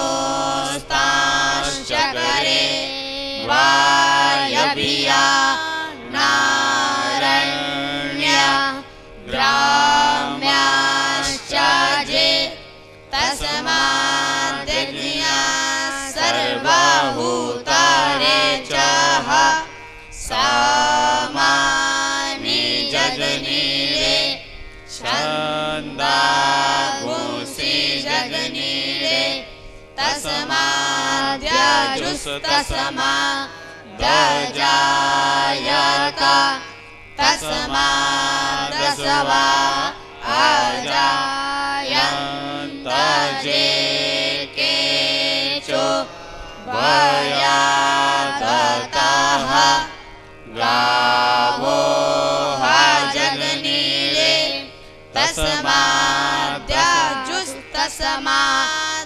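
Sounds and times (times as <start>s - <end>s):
group chanting hymns: 0.0s - 59.0s.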